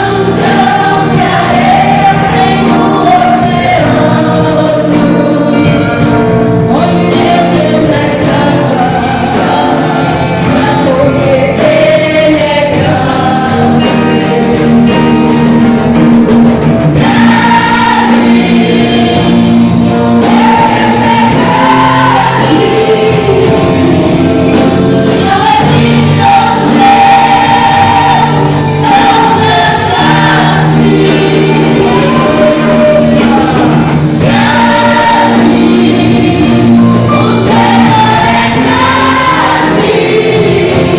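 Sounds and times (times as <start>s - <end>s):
gospel choir singing: 0.0s - 40.9s
instrumental accompaniment: 0.0s - 40.9s.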